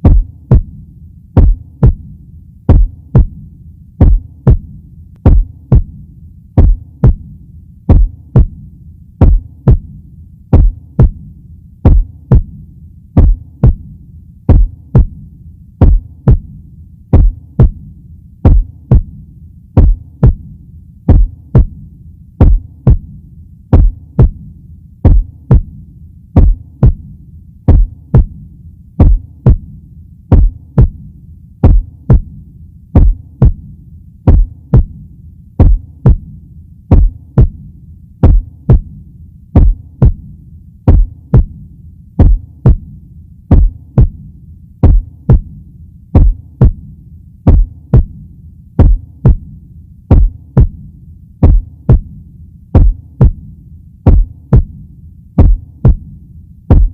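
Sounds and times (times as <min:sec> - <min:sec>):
heartbeat thumps: 0:00.0 - 0:00.8, 0:01.4 - 0:06.0, 0:06.6 - 0:19.2, 0:19.8 - 0:25.8, 0:26.4 - 0:39.0, 0:39.6 - 0:54.8, 0:55.4 - 0:56.9.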